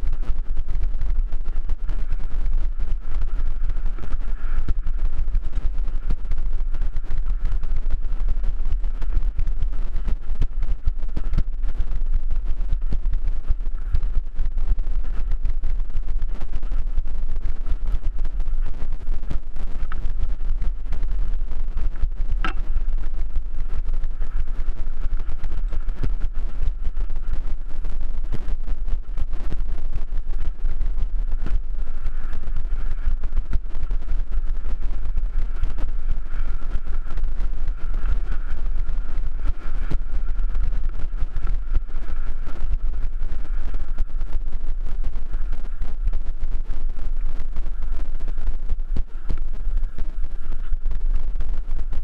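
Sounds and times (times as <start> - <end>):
low rumble: 0.0 - 52.0
thin steady whine: 0.0 - 52.0.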